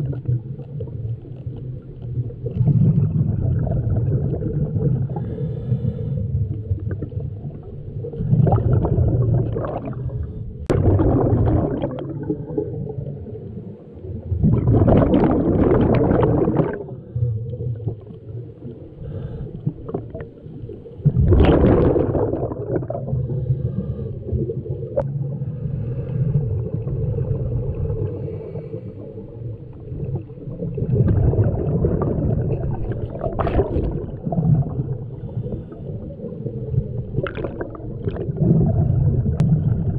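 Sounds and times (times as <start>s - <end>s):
exhaled bubbles rushing underwater: 0.0s - 39.9s
low underwater rumble: 0.0s - 39.9s.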